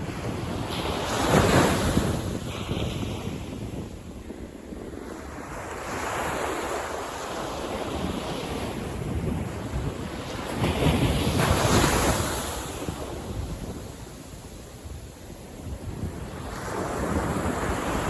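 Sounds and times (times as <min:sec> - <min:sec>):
ocean waves crashing on beach: 0:00.0 - 0:18.0.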